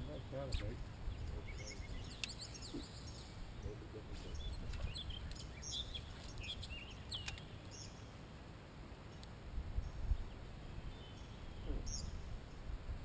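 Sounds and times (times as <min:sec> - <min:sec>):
songbirds chirping and whistling: 0:00.0 - 0:08.3, 0:09.0 - 0:12.8.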